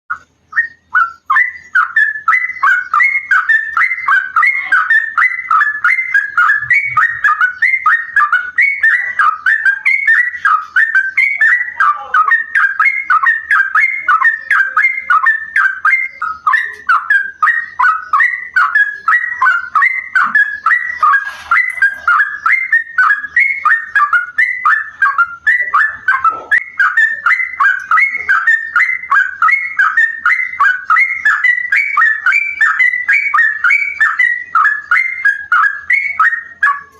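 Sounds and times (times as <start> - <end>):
bird singing whistled notes: 0.1 - 36.9.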